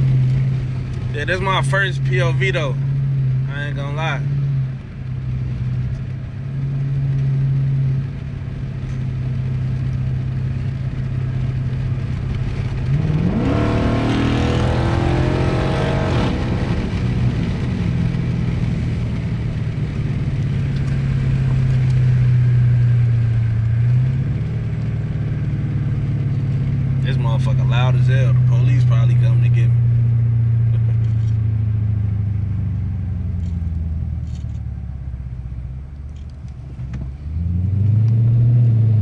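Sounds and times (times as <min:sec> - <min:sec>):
car engine and exhaust droning: 0:00.0 - 0:39.0.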